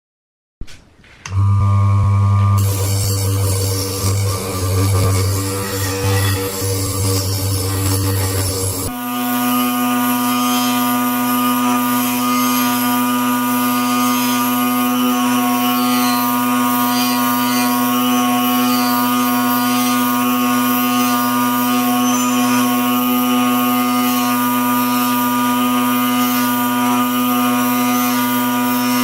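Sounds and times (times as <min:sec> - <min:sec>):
power tool motor humming: 0:01.3 - 0:29.0.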